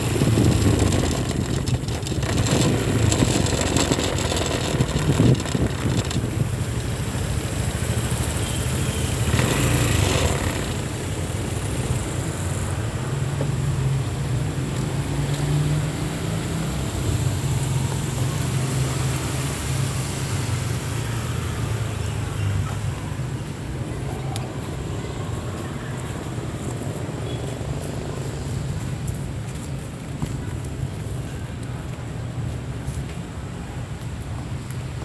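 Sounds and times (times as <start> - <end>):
road noise hiss: 0.0 - 35.0
vehicle engines humming: 0.0 - 35.0.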